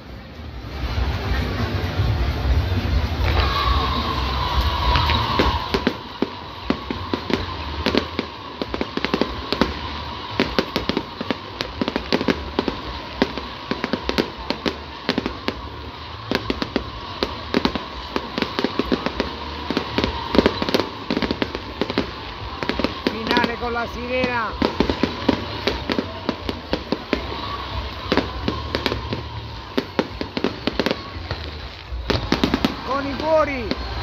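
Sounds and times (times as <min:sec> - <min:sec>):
fireworks bangs and pops: 0:00.0 - 0:34.0.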